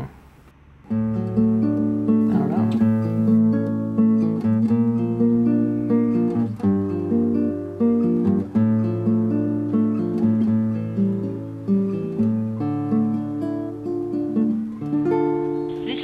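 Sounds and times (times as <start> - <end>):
acoustic guitar melody: 0.0 - 16.0
held bass notes: 0.0 - 16.0.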